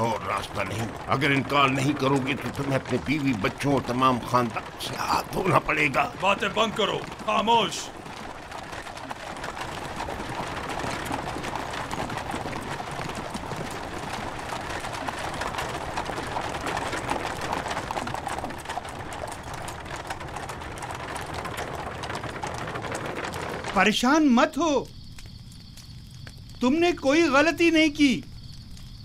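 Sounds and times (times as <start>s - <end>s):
horses galloping: 0.0s - 29.0s
wooden cart rolling: 0.0s - 29.0s.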